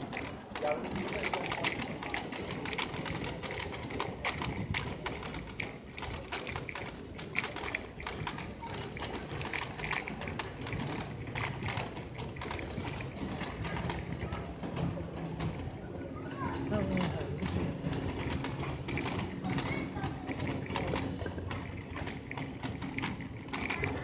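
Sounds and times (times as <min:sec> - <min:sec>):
bicycle rattling over paving slabs: 0:00.0 - 0:24.0
street traffic: 0:00.0 - 0:24.0.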